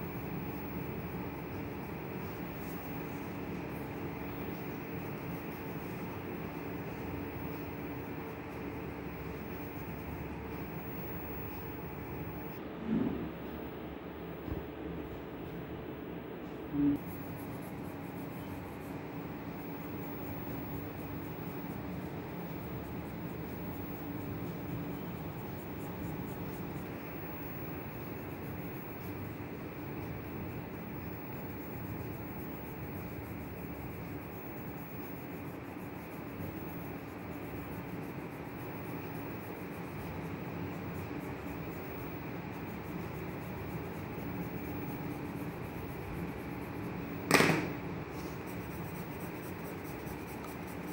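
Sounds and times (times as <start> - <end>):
pencil scratching on paper: 0.0 - 12.6, 17.0 - 50.9
faint low hum: 0.0 - 50.9.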